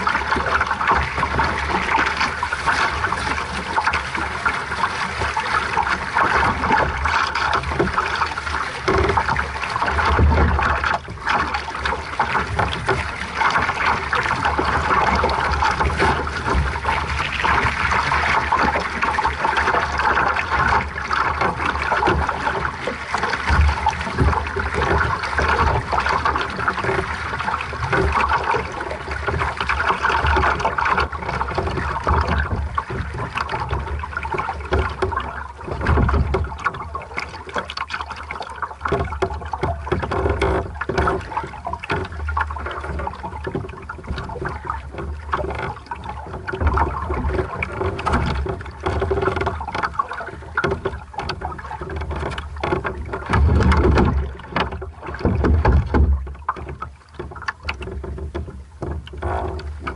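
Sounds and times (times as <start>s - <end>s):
wind rumble on microphone: 0.0s - 37.6s, 39.0s - 56.6s
water rushing along a hull: 0.0s - 59.9s.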